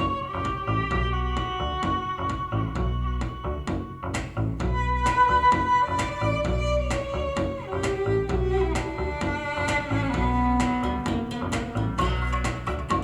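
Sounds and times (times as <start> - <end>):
music with beat and bass: 0.0 - 13.0.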